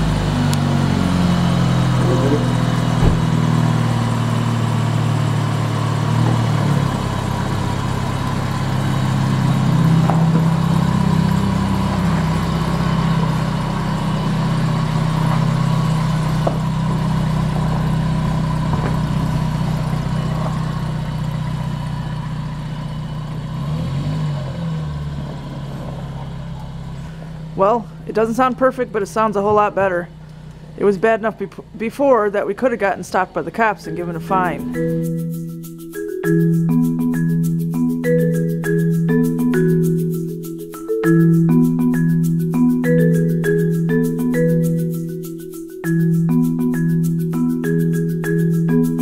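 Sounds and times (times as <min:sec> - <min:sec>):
car engine and exhaust running: 0:00.0 - 0:49.0.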